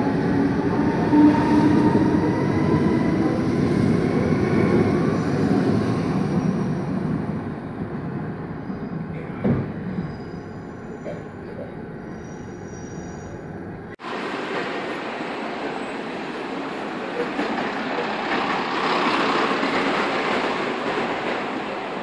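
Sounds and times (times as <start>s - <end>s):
diesel train passing on rails: 0.0s - 22.0s.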